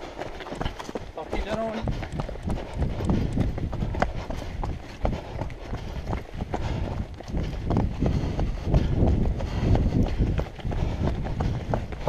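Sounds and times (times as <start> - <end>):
running footsteps on a stony trail: 0.0 - 12.0
wind rumbling on microphone: 0.0 - 12.0.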